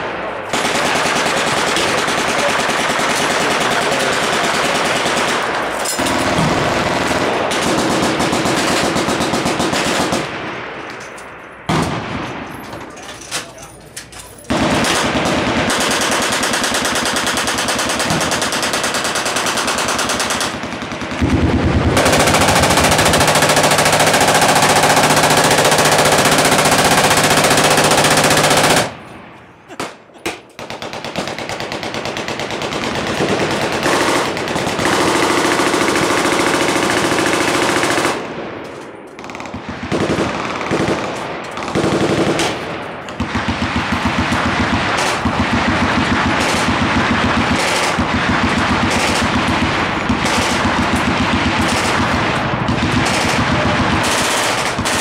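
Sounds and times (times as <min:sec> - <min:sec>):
machine-gun fire: 0:00.0 - 0:10.6, 0:11.7 - 0:12.5, 0:14.5 - 0:29.0, 0:30.6 - 0:38.4, 0:39.2 - 0:55.0.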